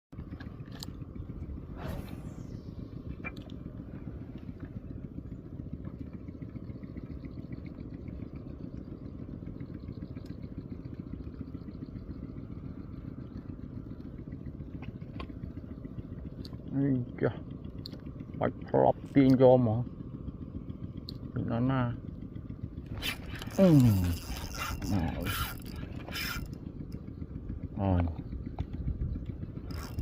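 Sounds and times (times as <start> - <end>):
small engine running: 0.2 - 30.0.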